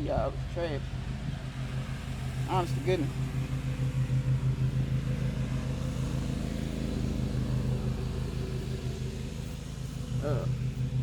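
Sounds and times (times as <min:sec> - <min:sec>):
pulsing engine drone: 0:00.0 - 0:11.0.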